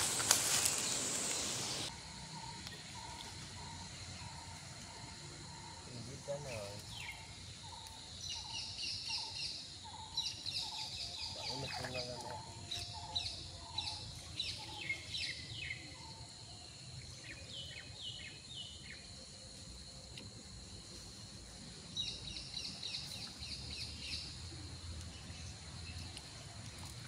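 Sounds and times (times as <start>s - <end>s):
low outdoor background noise: 0.0s - 27.0s.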